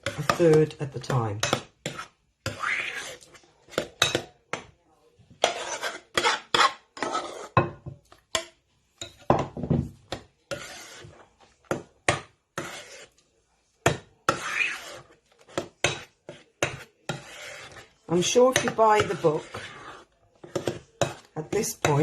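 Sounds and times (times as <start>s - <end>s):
spoon scraping a bowl: 0.0s - 4.6s, 5.4s - 9.3s, 10.1s - 13.2s, 13.8s - 22.0s.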